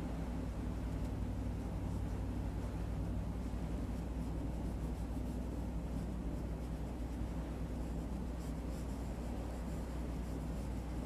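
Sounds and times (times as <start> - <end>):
low hum and hiss: 0.0 - 11.0
brush stroking on paper: 0.5 - 11.0.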